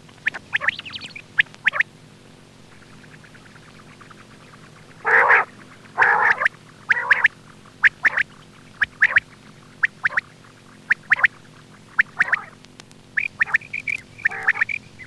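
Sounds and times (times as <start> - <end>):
quail calling: 0.2 - 1.9, 2.7 - 12.6, 13.2 - 15.0.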